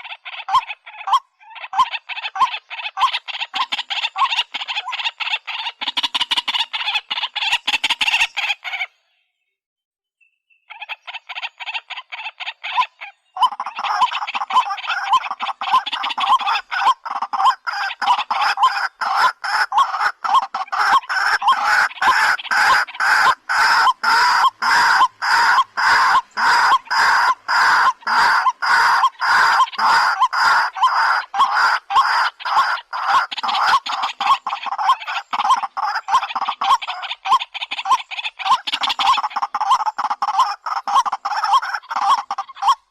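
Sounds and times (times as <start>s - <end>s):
bird harsh clucking calls: 0.0s - 9.2s, 10.5s - 42.9s.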